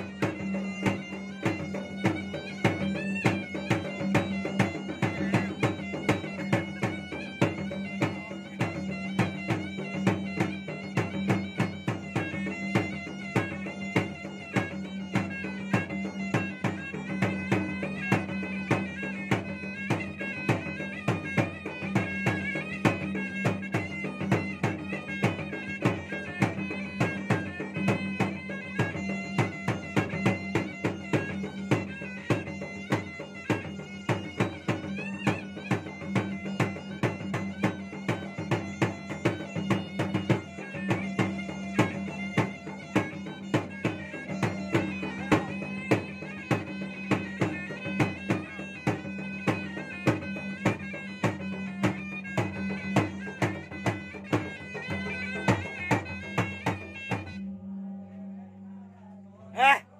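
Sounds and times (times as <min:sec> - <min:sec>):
hand drums in fast rhythm: 0:00.0 - 0:57.4, 0:59.6 - 0:59.8
reedy wind pipe melody: 0:00.0 - 0:58.8.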